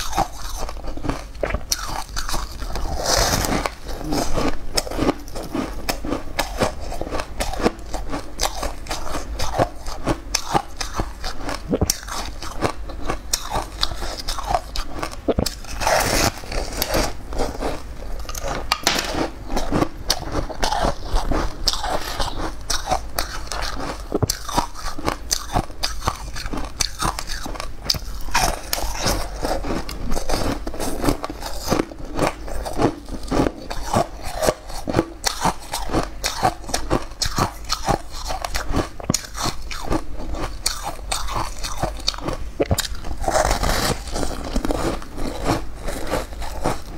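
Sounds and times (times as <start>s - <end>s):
person chewing crunchy buns: 0.0s - 46.9s.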